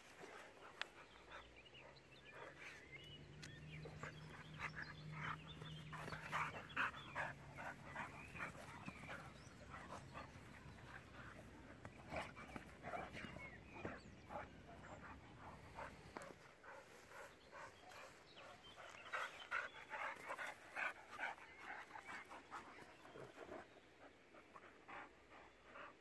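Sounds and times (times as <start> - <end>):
dogs play-fighting vocalizing: 3.4 - 17.3, 18.4 - 25.9.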